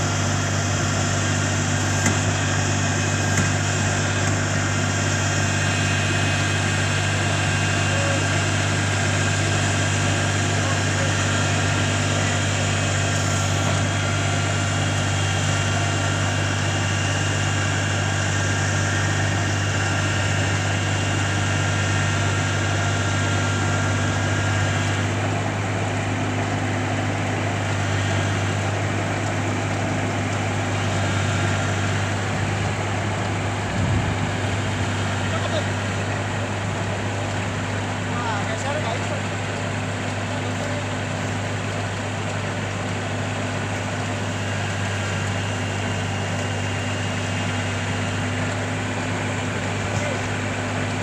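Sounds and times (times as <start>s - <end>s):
diesel engine humming: 0.0s - 51.0s
machinery whining: 0.0s - 51.0s.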